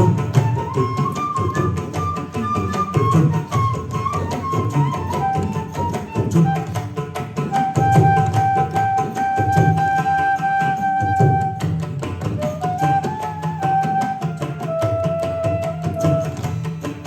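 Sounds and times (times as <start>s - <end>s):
flute melody: 0.0s - 16.7s
hand drum strokes: 0.0s - 17.0s.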